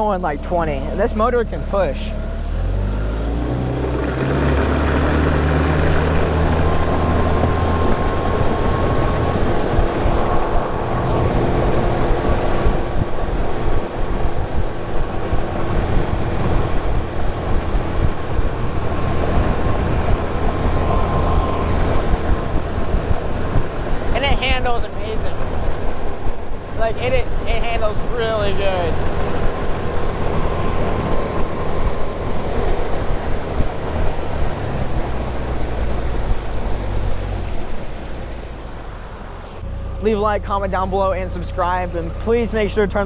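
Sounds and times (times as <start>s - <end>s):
wind on microphone: 0.0s - 39.7s
outboard motor throttling up: 0.0s - 43.0s.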